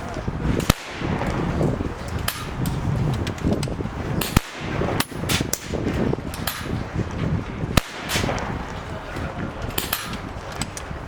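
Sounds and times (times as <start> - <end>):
steady low rumble: 0.0 - 11.0
air rifles firing: 0.4 - 11.0.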